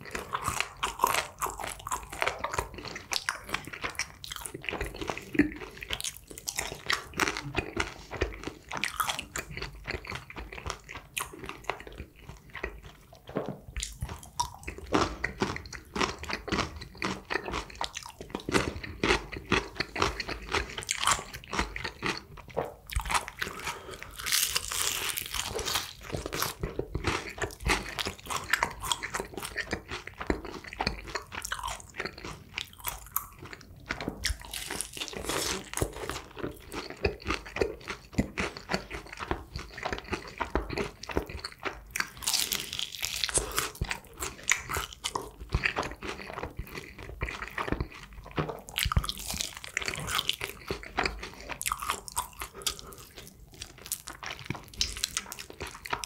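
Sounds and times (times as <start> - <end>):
crunching and chewing fried chicken: 0.0 - 56.0.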